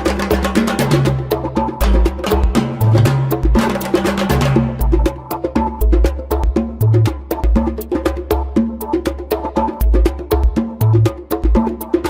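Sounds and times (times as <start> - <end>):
instrumental music with clicky percussion: 0.0 - 12.0.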